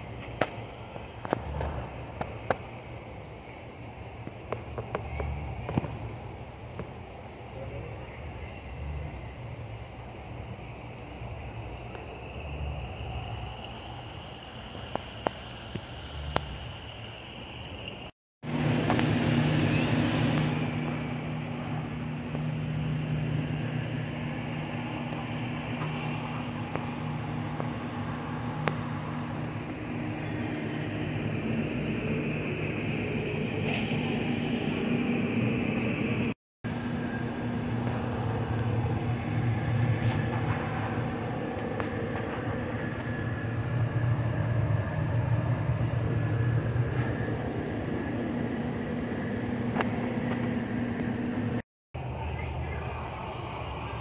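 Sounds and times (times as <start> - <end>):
low indoor hum: 0.0 - 54.0.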